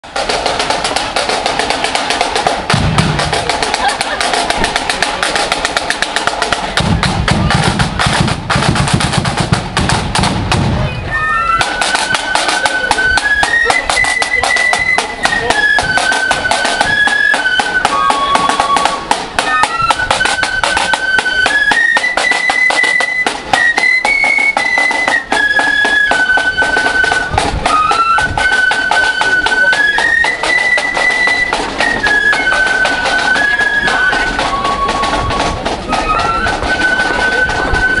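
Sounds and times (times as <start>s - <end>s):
flute band playing a tune: 0.0s - 38.0s
side drums beating: 0.0s - 38.0s.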